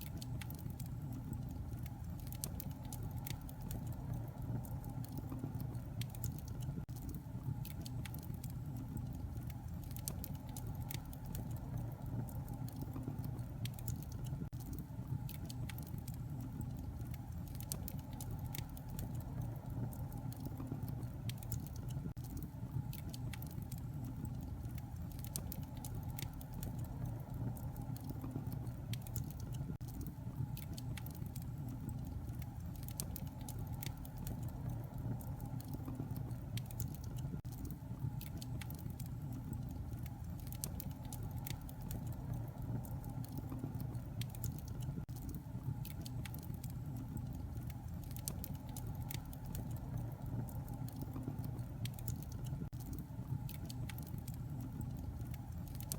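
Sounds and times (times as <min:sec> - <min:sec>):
fire low rumble: 0:00.0 - 0:55.9
wood fire crackling and popping: 0:00.0 - 0:55.9.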